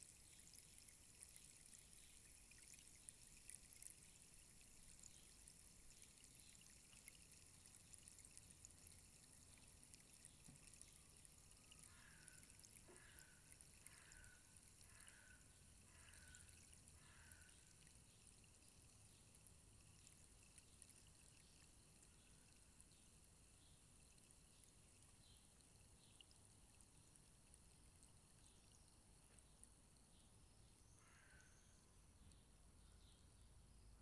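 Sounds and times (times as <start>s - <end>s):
rainstick trickling hiss: 0.0s - 32.5s.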